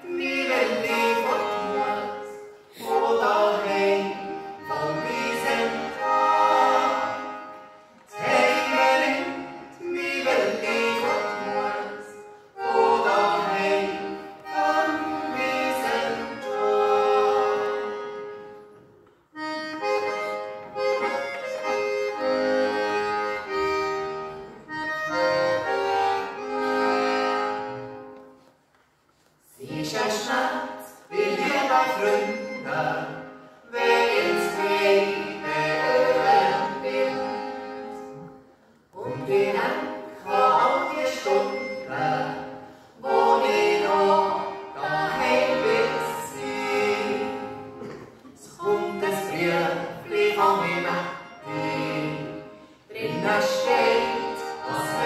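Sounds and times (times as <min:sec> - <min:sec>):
button accordion folk melody: 0:00.0 - 0:55.0.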